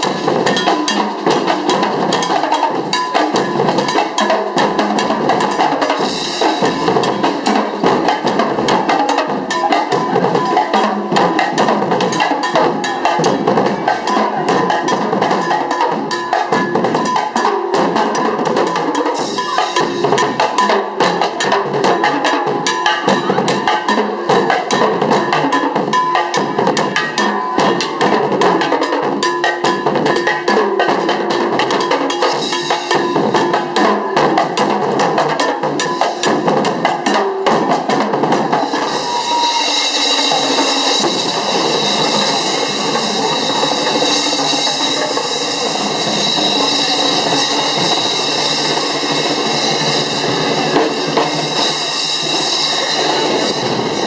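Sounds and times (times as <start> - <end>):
drummers playing drums: 0.0 - 54.0.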